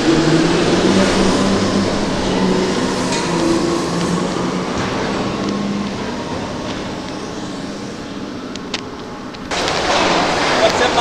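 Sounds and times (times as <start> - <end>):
heavy machinery droning: 0.0 - 11.0.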